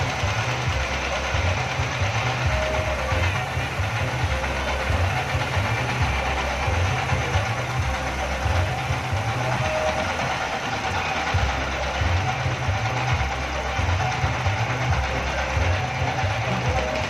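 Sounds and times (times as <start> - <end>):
diesel engine throbbing: 0.0 - 17.0
engine knocking beat: 0.0 - 17.0.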